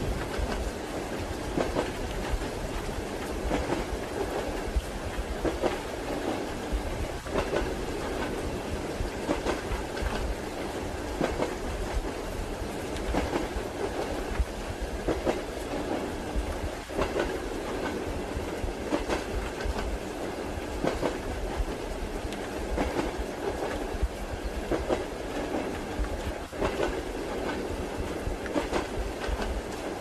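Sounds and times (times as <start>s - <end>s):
train wheels clacking over rail joints: 0.0s - 6.5s, 7.2s - 20.0s, 20.8s - 21.8s, 22.4s - 30.0s
train rumbling: 0.0s - 30.0s.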